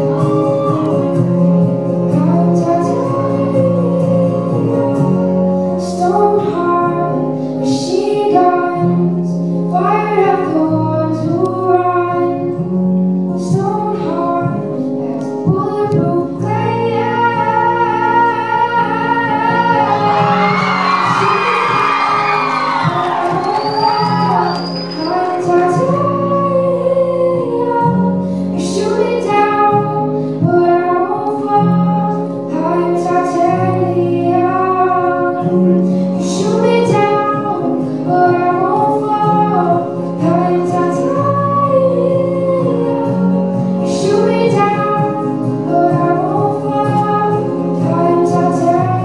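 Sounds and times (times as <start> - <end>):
musical accompaniment with bass: 0.0 - 49.0
girl singing into a microphone: 1.8 - 49.0.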